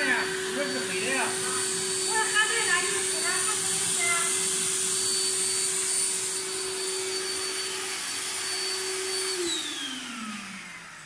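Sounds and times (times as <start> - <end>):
router spindle high whine: 0.0 - 11.0.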